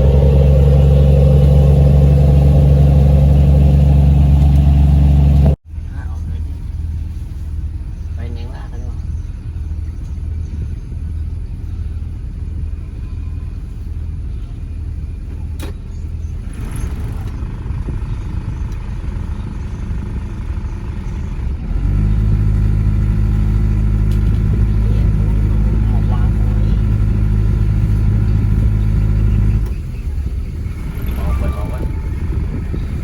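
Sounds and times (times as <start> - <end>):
engine rumbling: 0.0 - 33.0.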